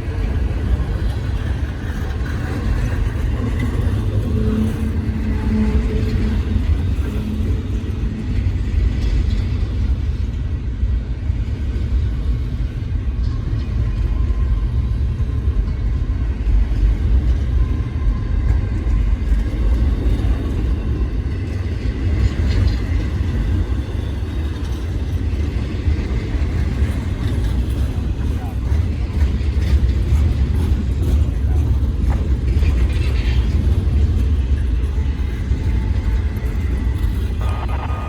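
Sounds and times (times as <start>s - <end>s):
freight train rumbling on rails: 0.0s - 38.0s.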